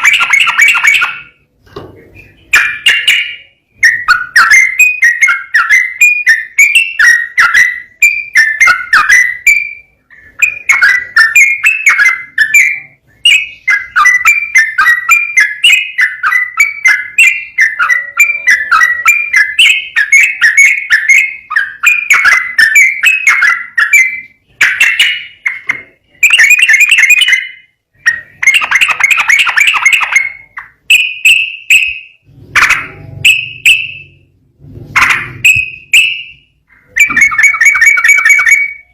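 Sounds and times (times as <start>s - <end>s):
bird singing whistled phrases: 2.2s - 32.2s, 35.4s - 38.9s.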